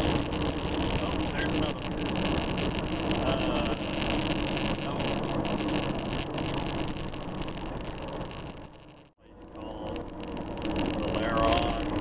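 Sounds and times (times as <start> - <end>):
engine drone: 0.0 - 12.0
road noise on wet road: 0.0 - 12.0.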